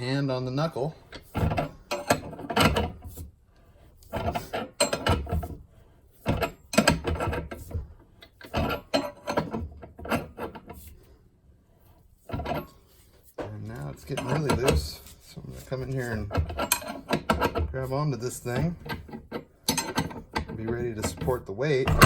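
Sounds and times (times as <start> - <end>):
metal creaking and grinding: 0.0 - 3.3, 3.9 - 11.1, 12.2 - 22.0.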